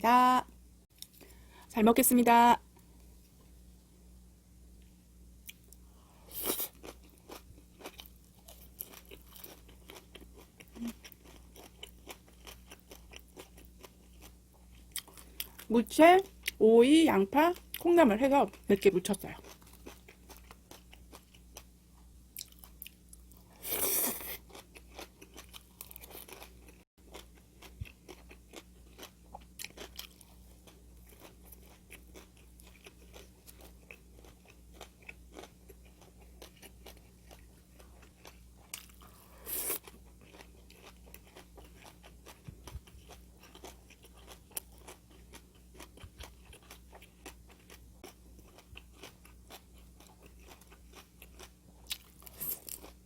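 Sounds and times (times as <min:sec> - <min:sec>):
person chewing crunchy food: 0:05.4 - 0:15.7, 0:19.4 - 0:53.0.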